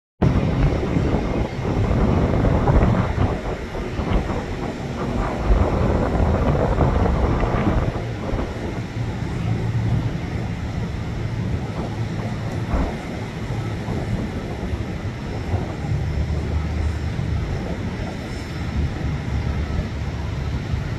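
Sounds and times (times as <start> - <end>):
distant jet engines rumbling: 0.2 - 20.9.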